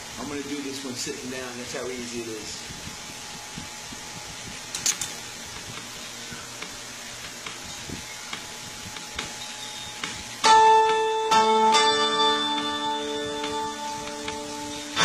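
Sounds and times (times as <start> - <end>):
faint steady hum: 0.0 - 15.0
room hiss: 0.0 - 15.0.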